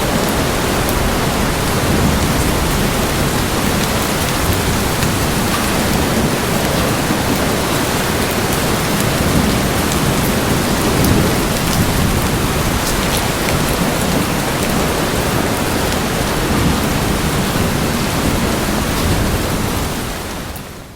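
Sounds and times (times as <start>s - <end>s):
thunder rumble: 0.0s - 20.8s
rain on hard surfaces: 0.0s - 20.9s.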